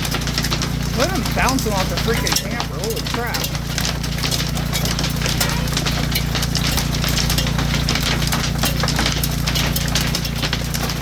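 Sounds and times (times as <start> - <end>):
hailstones clattering on hard surfaces: 0.0 - 11.0.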